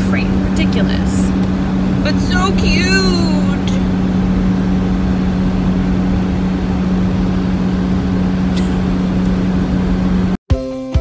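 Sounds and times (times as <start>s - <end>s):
car engine and road noise: 0.0s - 10.4s
constant low hum: 0.0s - 10.4s.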